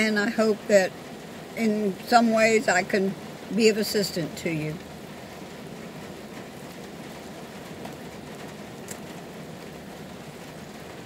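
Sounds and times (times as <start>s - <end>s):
rain falling behind window: 0.0s - 11.0s.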